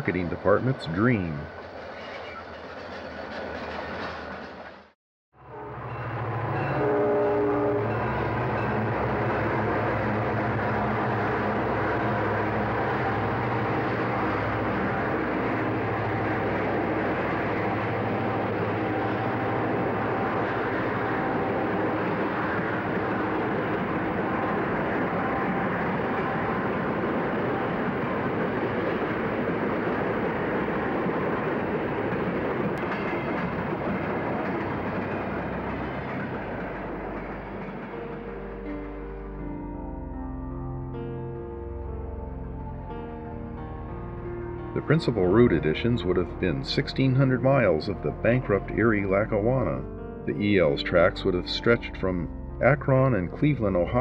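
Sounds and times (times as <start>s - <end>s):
rail cars rumbling: 0.0s - 40.2s, 42.2s - 54.0s
locomotive engine drone: 0.0s - 54.0s.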